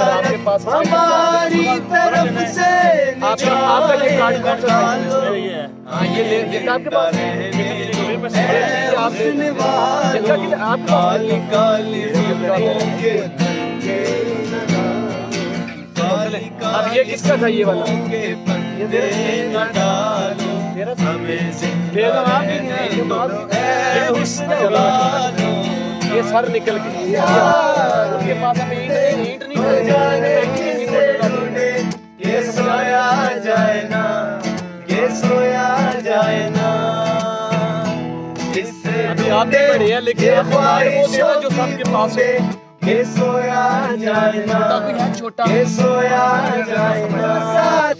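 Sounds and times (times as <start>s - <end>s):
acoustic guitar strumming: 0.0s - 47.9s
men singing together: 0.0s - 47.9s.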